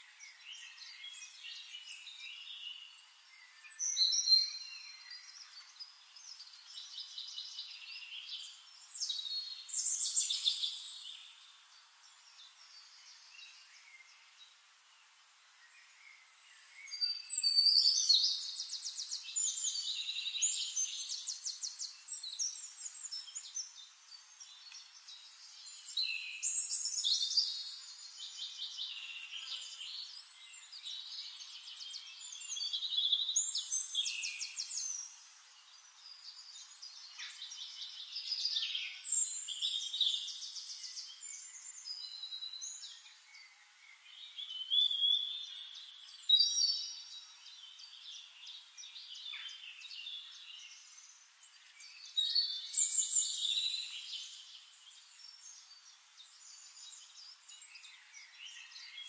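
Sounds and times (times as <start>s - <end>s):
songbirds singing with trills: 0.0s - 59.0s.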